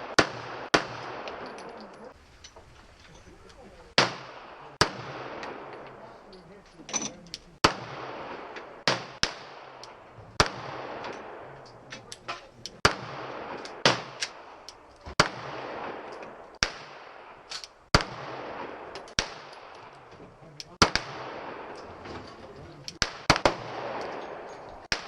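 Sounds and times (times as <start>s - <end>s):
faint distant gunshots: 0.0s - 2.2s, 3.4s - 6.3s, 7.5s - 25.0s
loud gunshots with echo: 0.0s - 2.2s, 3.9s - 6.2s, 7.6s - 20.1s, 20.7s - 25.0s.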